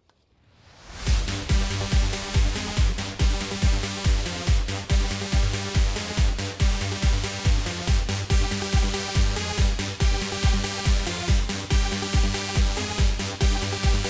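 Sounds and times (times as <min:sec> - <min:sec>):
electronic dance music: 0:01.1 - 0:14.0.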